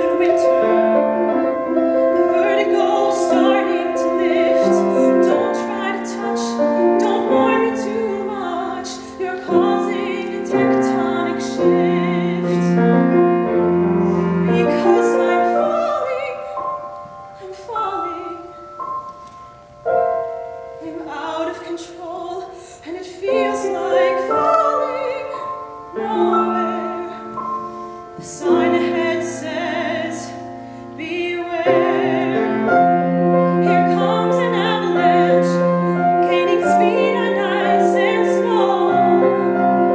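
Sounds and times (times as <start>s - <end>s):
woman singing ballad: 0.0s - 13.2s, 14.0s - 19.1s, 20.7s - 39.9s
grand piano accompaniment: 0.0s - 39.9s.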